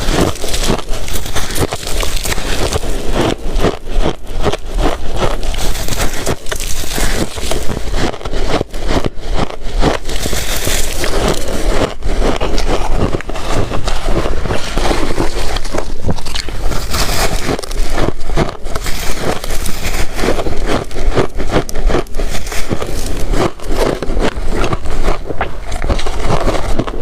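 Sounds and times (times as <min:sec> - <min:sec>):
ice crunching and chewing: 0:00.0 - 0:27.0.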